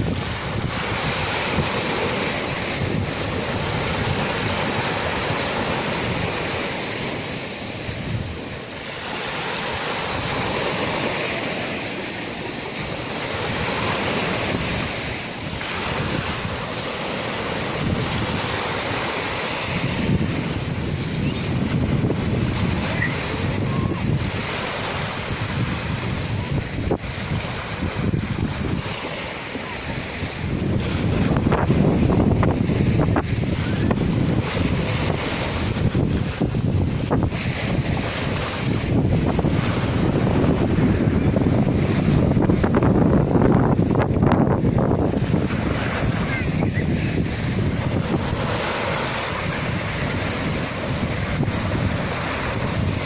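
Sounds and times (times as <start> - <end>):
sea waves surging: 0.0 - 53.0.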